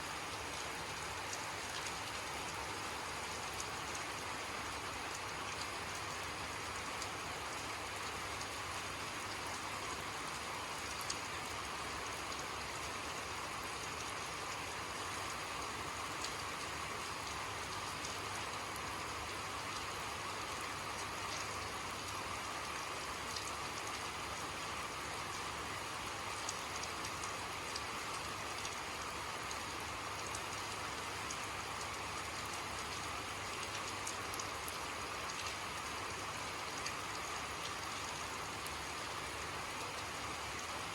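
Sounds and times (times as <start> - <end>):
steady rainfall hiss: 0.0 - 40.9.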